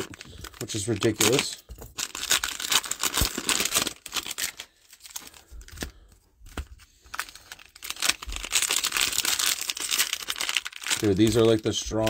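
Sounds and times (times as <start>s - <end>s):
foil wrappers tearing and crinkling: 0.0s - 6.0s, 6.6s - 12.0s.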